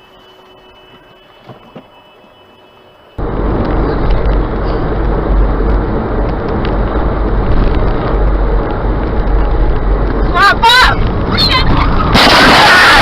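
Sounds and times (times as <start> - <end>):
moving vehicle rumble and rush: 0.0 - 13.0.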